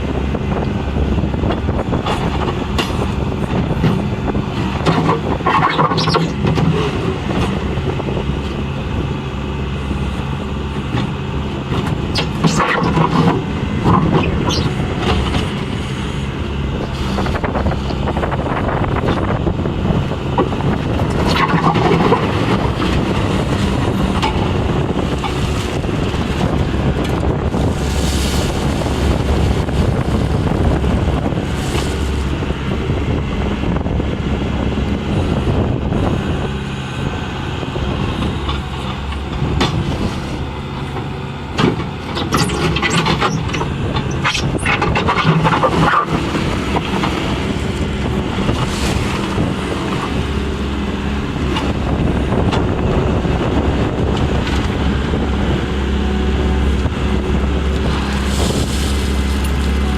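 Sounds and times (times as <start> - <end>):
skid steer diesel engine: 0.0 - 59.9.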